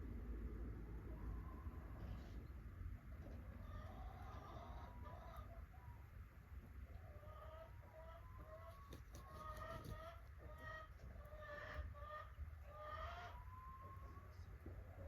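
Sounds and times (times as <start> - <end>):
chickens clucking: 1.1 - 15.0.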